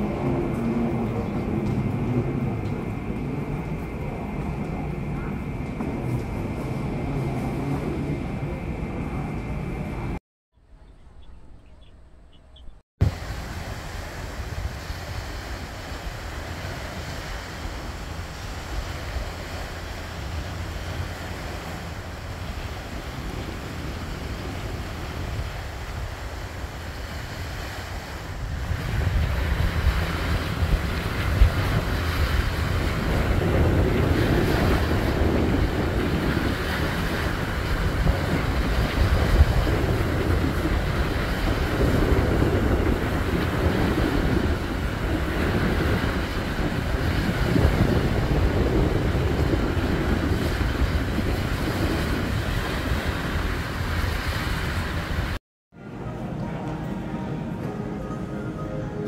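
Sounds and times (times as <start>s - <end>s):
waves washing on shore: 0.0s - 10.2s, 13.0s - 55.4s
wind buffeting microphone: 0.0s - 10.2s, 11.1s - 55.4s.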